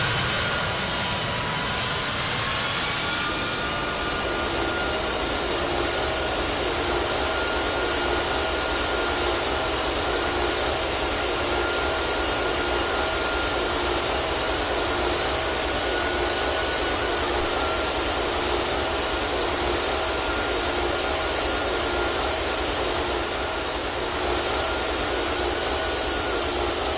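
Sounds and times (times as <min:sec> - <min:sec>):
airplane engines roaring: 0:00.0 - 0:26.9.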